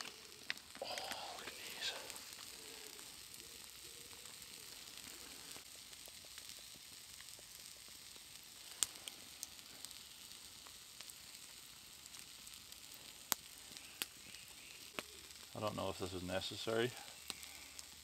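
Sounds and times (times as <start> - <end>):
campfire hissing: 0.0 - 18.0
fire crackling pops: 0.0 - 18.0.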